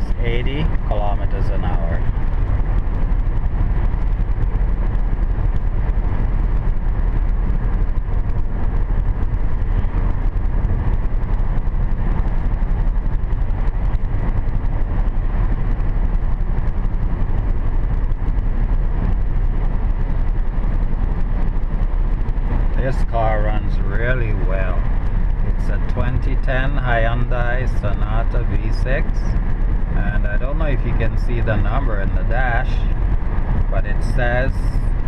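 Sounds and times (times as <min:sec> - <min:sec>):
car road and engine noise: 0:00.0 - 0:35.0.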